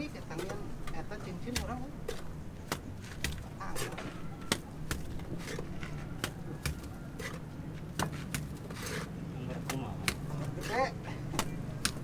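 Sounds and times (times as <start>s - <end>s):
sharp knocks and taps: 0.4s - 8.8s, 9.7s - 10.5s, 11.3s - 12.0s.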